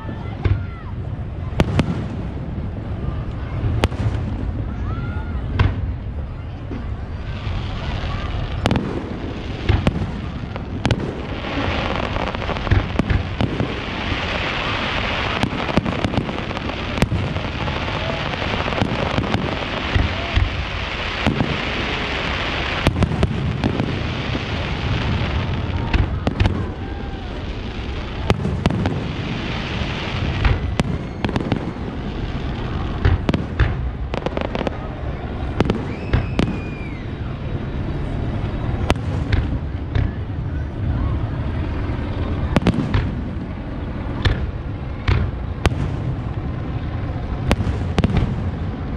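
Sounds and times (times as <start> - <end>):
fireworks booming and popping: 0.0 - 48.9
fireworks crackling hiss: 0.0 - 48.9.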